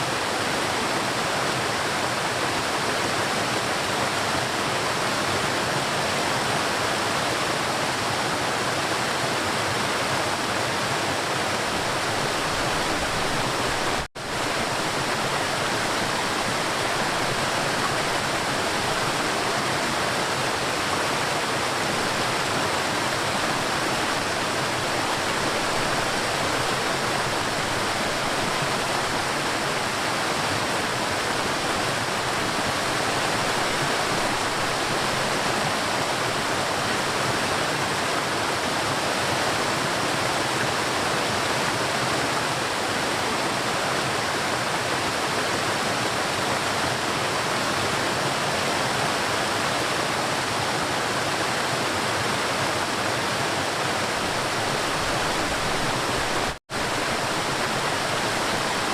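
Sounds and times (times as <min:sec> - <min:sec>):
river water rushing: 0:00.0 - 0:58.9.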